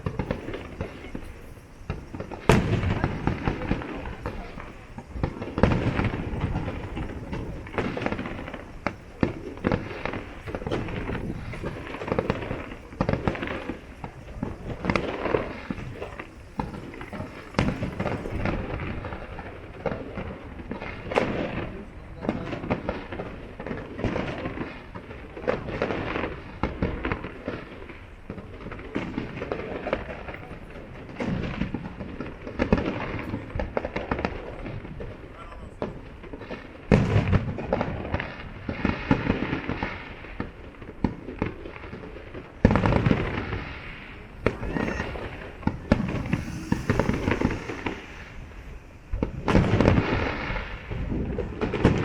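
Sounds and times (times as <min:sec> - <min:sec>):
onlookers' voices: 0:00.0 - 0:36.2, 0:42.0 - 0:52.0
fireworks bursting with bangs: 0:00.0 - 0:52.0.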